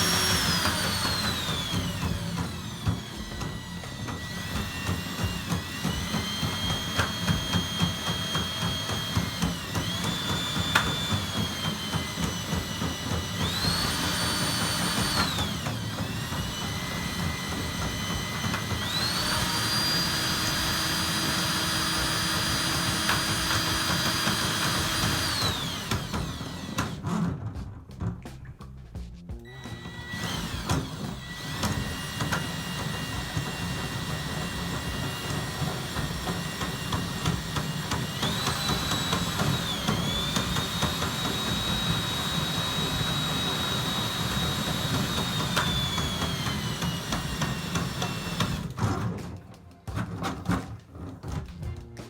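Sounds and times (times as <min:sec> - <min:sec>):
drain machine motor whine: 0:00.0 - 0:27.1, 0:29.5 - 0:48.8.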